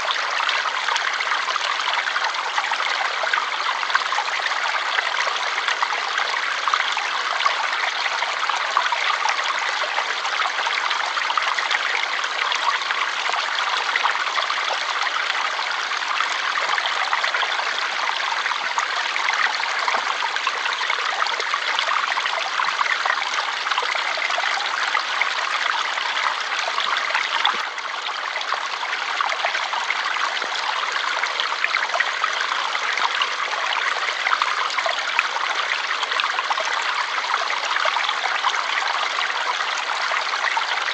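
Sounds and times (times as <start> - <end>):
water flowing: 0.0 - 40.9.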